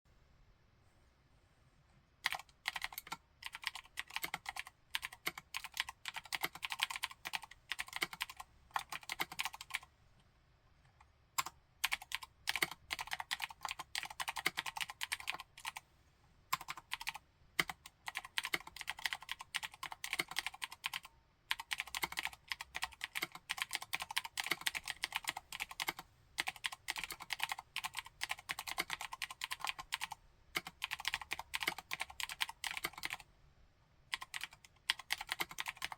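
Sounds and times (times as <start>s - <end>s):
mechanical keyboard typing: 2.2s - 9.9s, 11.4s - 15.8s, 16.5s - 33.3s, 34.1s - 35.9s.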